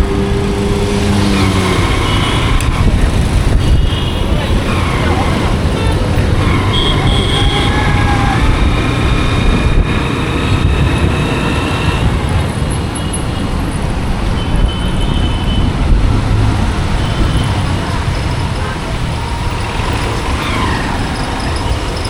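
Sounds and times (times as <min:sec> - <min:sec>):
motorcycle engine rumble: 0:00.0 - 0:22.0
passing traffic: 0:00.0 - 0:22.0.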